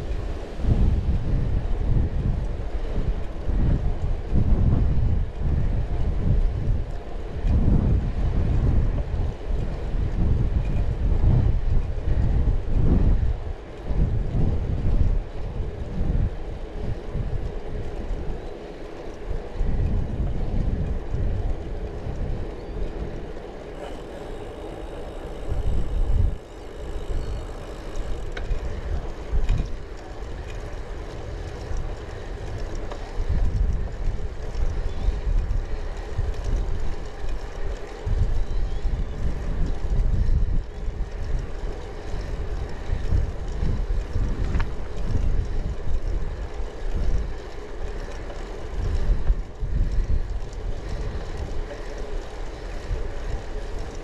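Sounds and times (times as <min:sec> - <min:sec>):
hum of bicycle riding: 0:00.0 - 0:54.0
wind buffeting microphone: 0:00.0 - 0:54.0.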